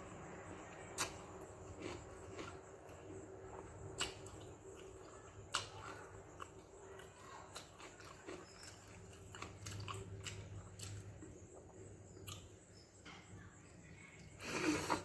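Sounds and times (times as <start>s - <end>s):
person chewing food: 0.5s - 12.8s.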